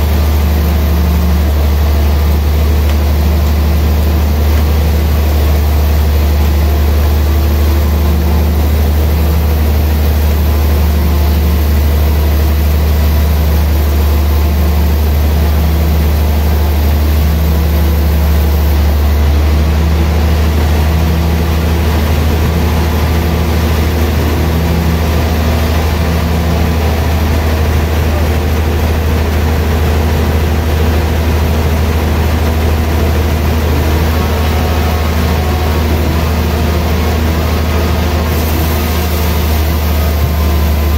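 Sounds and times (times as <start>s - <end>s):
band saw droning: 0.0s - 40.9s.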